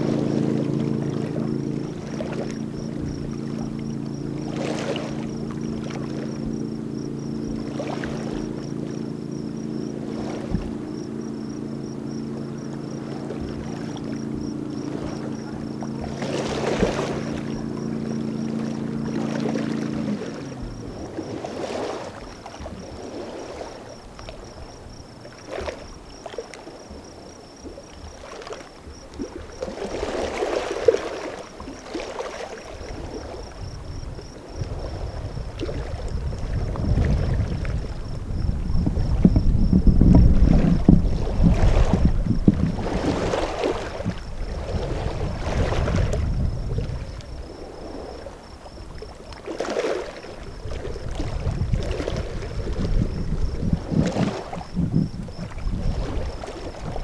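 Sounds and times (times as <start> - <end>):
distant motorboat engine: 0.0 - 57.0
small water splashes: 0.0 - 57.0.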